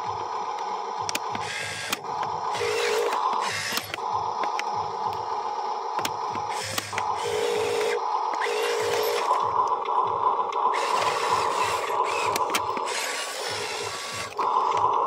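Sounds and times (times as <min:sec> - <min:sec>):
toy truck motor whirring: 0:01.1 - 0:05.2, 0:06.0 - 0:15.0.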